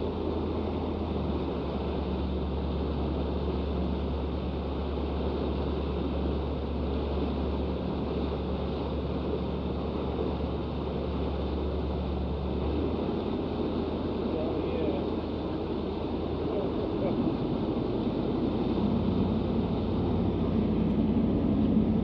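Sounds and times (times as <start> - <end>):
boat engine drone: 0.0 - 22.0
rushing churning wake: 0.0 - 22.0.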